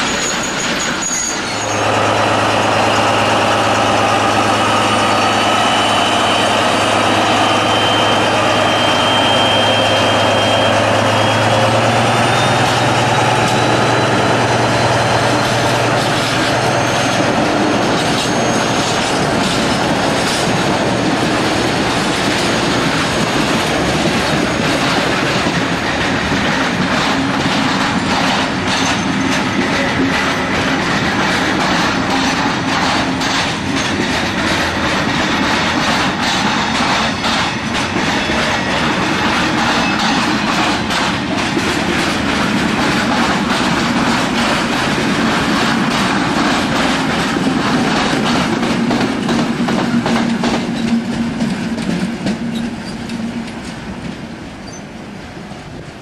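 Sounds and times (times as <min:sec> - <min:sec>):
freight wagons clattering over rails: 0:00.0 - 0:54.8
diesel locomotive engine drone: 0:00.0 - 0:56.0.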